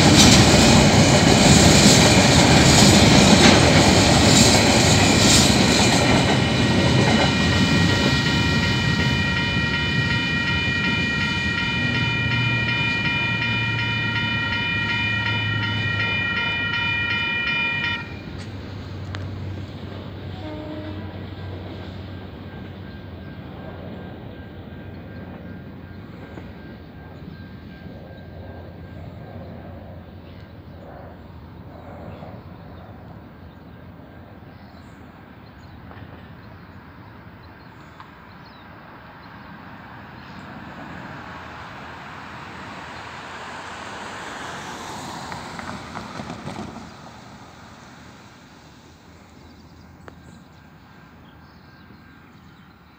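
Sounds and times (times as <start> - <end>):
airliner engine rushing overhead: 0.0 - 52.9.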